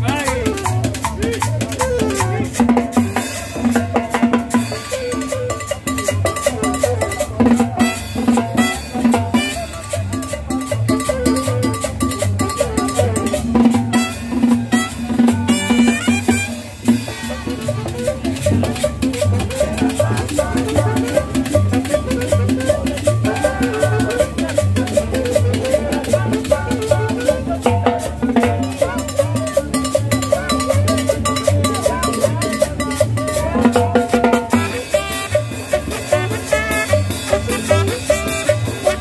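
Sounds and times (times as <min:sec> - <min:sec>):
latin street band playing: 0:00.0 - 0:39.0
trumpet melody: 0:04.6 - 0:39.0.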